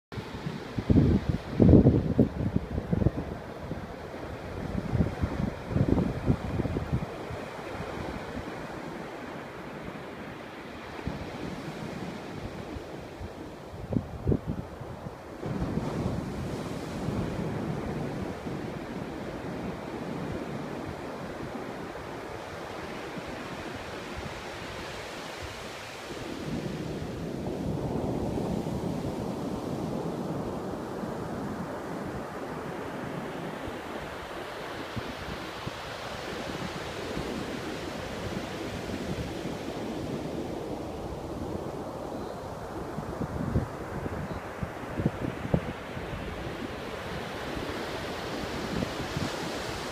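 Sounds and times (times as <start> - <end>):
wind rumbling on microphone: 0.1 - 49.9
ocean surf washing up beach: 0.2 - 49.9.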